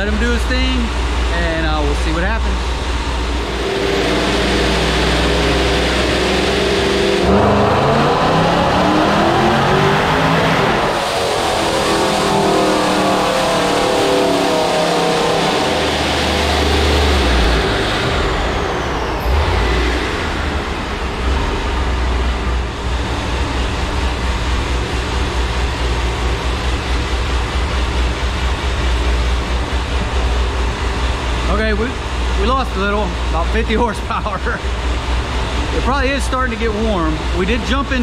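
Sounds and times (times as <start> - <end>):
high supercharger whine: 0.0 - 38.0
supercharged engine running hard: 0.0 - 38.0.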